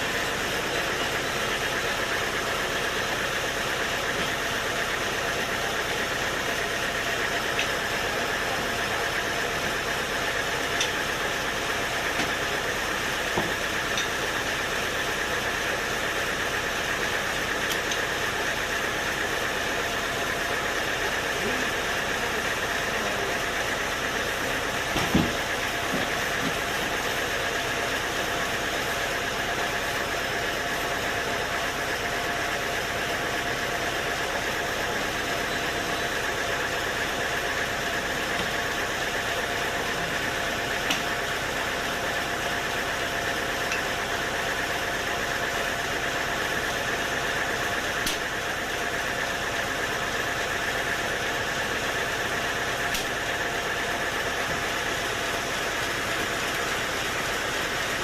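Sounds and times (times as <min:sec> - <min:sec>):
sawmill machinery hum: 0:00.0 - 0:58.0
steady machine whine: 0:00.0 - 0:58.0.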